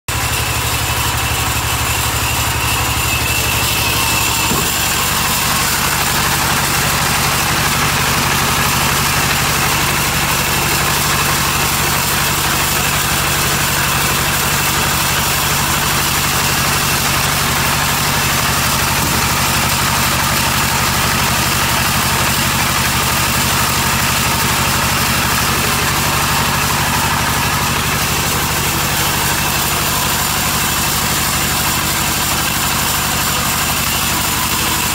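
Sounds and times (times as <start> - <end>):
band saw running: 0.1 - 34.9.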